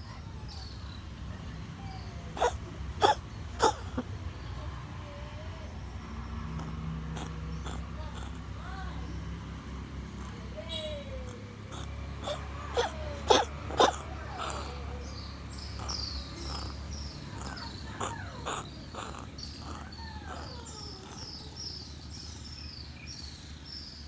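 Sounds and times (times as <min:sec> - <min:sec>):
birds chirping: 0:00.4 - 0:24.0.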